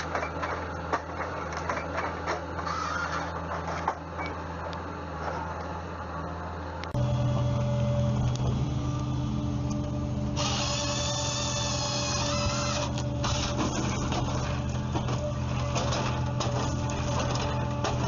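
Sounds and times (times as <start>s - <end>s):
wood-processing machinery humming: 0.0s - 18.0s.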